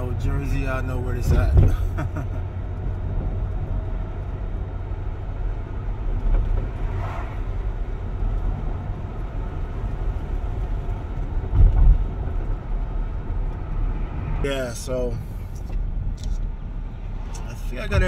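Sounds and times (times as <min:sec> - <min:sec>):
car engine rumbling: 0:00.0 - 0:18.0
road noise: 0:00.0 - 0:18.0.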